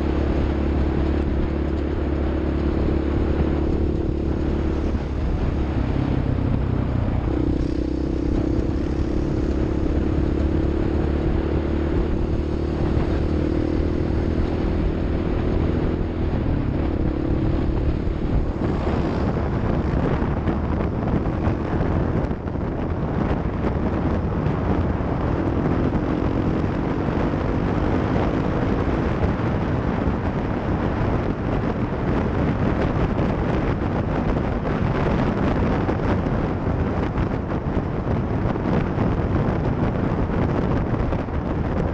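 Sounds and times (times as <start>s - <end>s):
continuous rough noise: 0.0s - 41.9s
off-road vehicle engine running: 0.0s - 41.9s.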